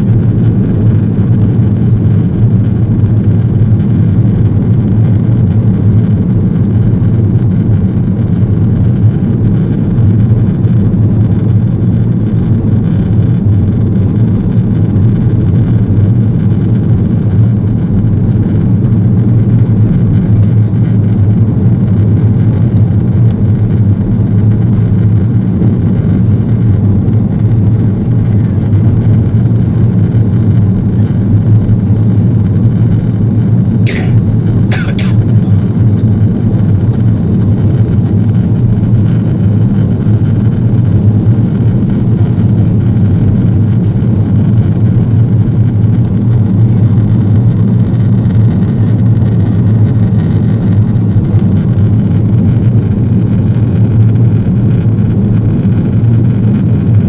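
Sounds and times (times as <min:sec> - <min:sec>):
airplane cabin roar: 0:00.0 - 0:57.0
deep hum: 0:00.0 - 0:57.0.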